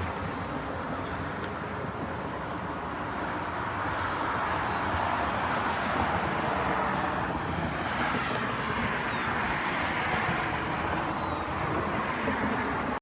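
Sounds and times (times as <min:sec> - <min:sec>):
steady outdoor roar: 0:00.0 - 0:13.0.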